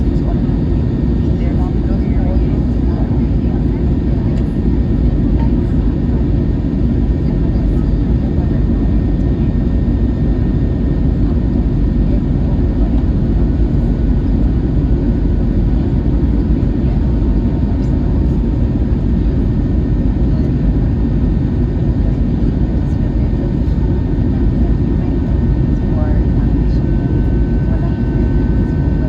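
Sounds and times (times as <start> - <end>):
engine and airflow rumble: 0.0 - 29.0.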